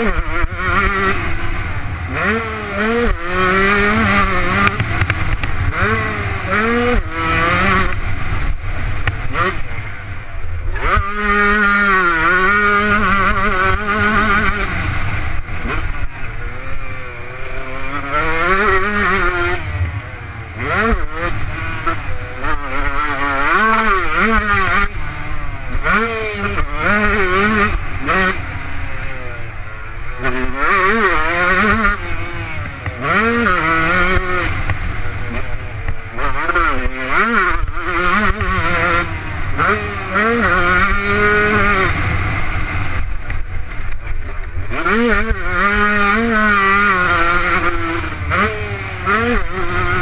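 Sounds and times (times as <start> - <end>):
motocross engine revving: 0.0 - 50.0.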